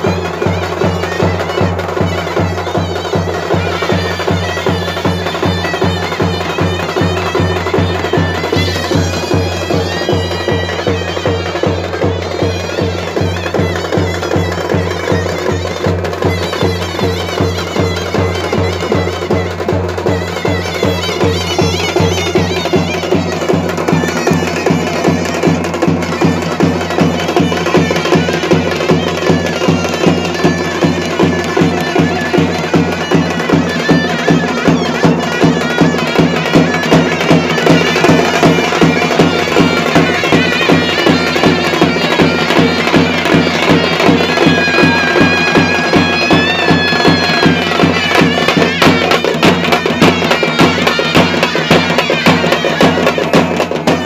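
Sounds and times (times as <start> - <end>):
drum beating fast rhythm: 0.0 - 54.0
wind instrument melody over drone: 0.0 - 54.0.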